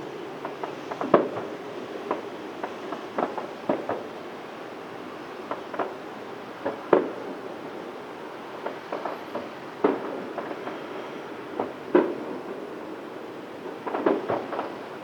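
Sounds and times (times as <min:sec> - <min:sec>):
background hiss: 0:00.0 - 0:15.0
fireworks bursting: 0:00.0 - 0:15.0.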